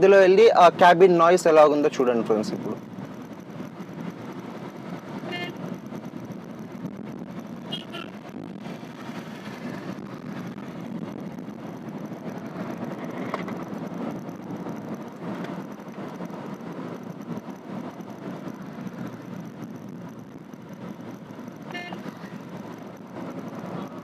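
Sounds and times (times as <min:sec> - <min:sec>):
car interior road and engine rumble: 0:00.0 - 0:24.0.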